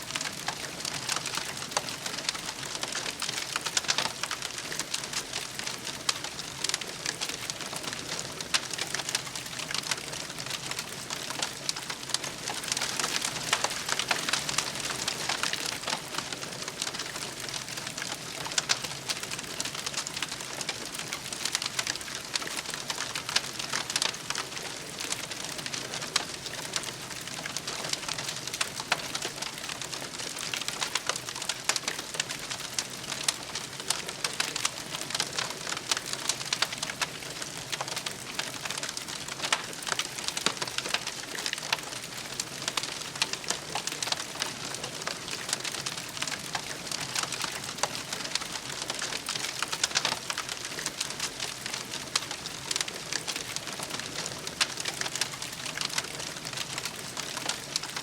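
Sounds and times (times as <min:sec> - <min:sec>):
campfire crackling: 0:00.1 - 0:58.0.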